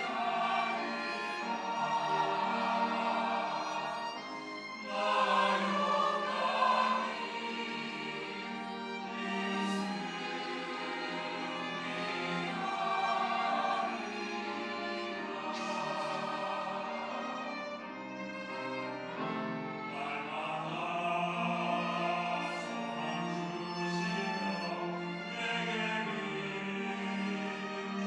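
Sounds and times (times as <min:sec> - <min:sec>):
choir singing: 0:00.0 - 0:28.0
instrumental accompaniment: 0:00.0 - 0:28.0.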